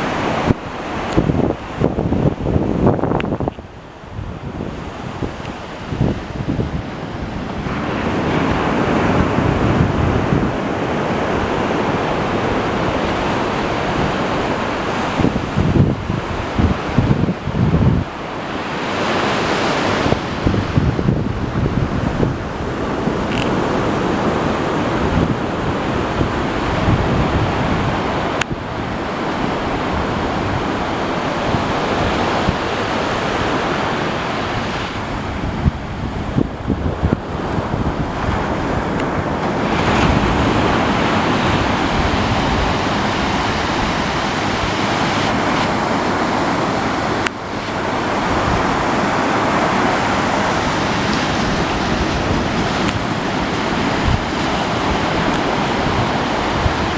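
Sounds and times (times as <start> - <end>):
ocean waves breaking on beach: 0.0 - 56.9
wind on microphone: 0.0 - 56.9.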